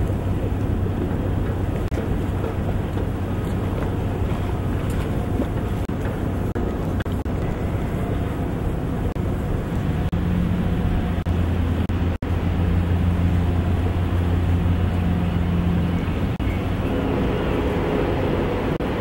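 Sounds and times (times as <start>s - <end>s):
low engine drone: 0.0s - 19.0s
water noise: 0.0s - 19.0s
wind: 0.0s - 19.0s.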